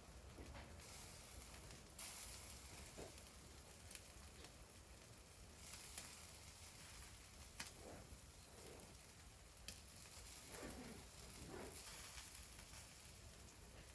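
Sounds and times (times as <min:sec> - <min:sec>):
fire crackles and pops: 0:00.0 - 0:13.9
wood fire hissing: 0:00.0 - 0:13.9.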